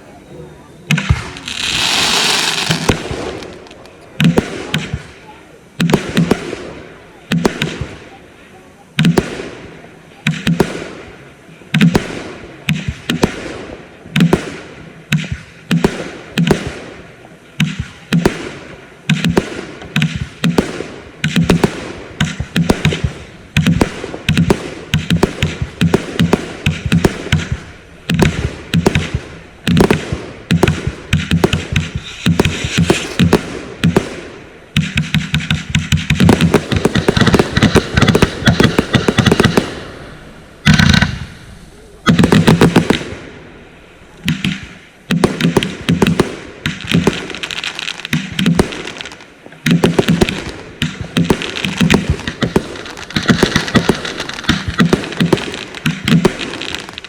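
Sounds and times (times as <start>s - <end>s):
firework cakes firing volleys: 0.8s - 57.0s.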